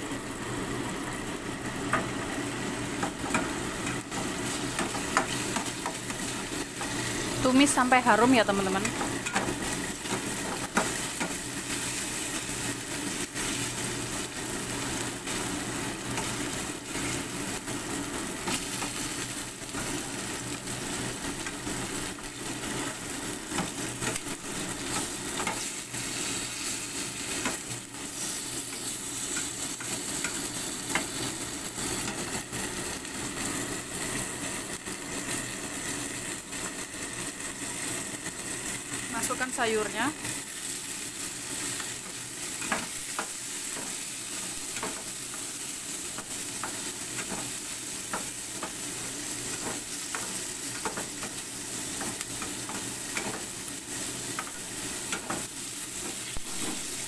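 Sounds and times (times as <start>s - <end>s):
shallots sizzling in oil: 0.0s - 57.0s.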